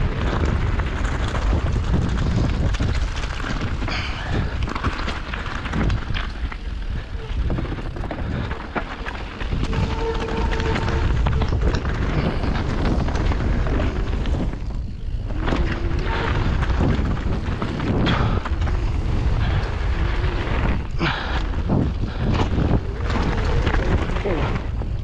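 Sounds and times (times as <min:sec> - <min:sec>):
bike knocks and rattles: 0:00.0 - 0:25.0
wind rumble on microphone: 0:00.0 - 0:25.0.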